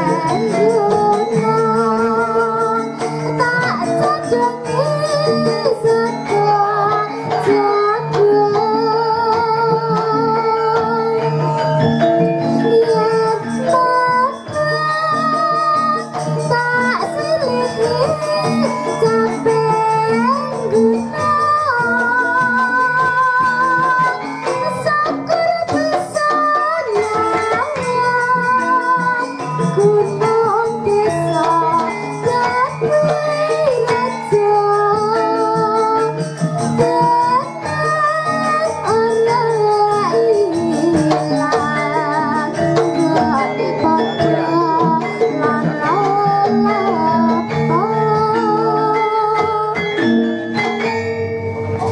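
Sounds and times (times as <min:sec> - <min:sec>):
woman singing: 0:00.0 - 0:50.2
hand drums: 0:00.0 - 0:51.9
metallophones and gongs: 0:00.0 - 0:51.9.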